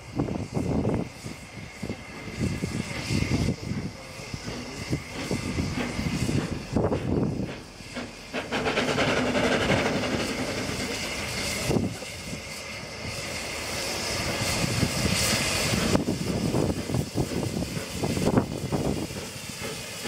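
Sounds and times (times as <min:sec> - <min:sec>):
steam hissing from locomotive: 0:00.0 - 0:20.0
locomotive exhaust beats: 0:00.1 - 0:20.0.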